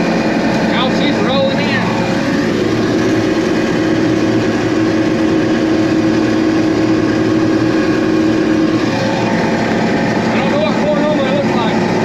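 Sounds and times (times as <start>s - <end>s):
combine mechanical drone: 0.0s - 12.0s
steady machine whine: 0.0s - 12.0s.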